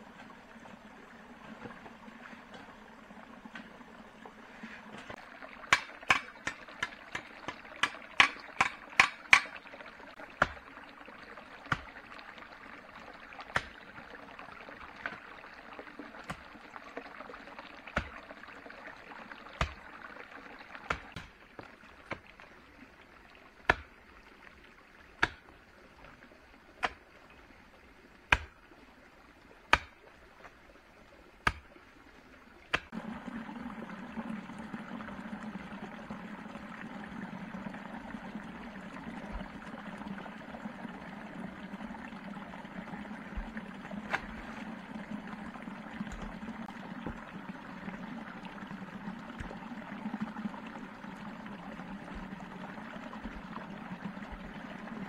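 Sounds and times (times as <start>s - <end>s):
rushing water noise: 0.0s - 24.0s, 31.4s - 55.0s.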